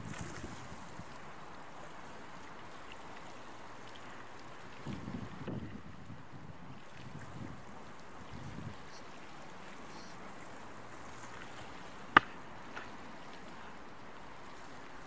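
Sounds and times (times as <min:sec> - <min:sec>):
sea water: 0:00.0 - 0:15.0
wind: 0:00.0 - 0:15.0.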